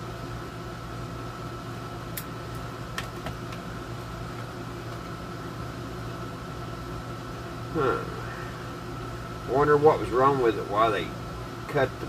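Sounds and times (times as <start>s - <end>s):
air conditioner humming: 0.0s - 12.0s
faint constant whine: 0.0s - 12.0s.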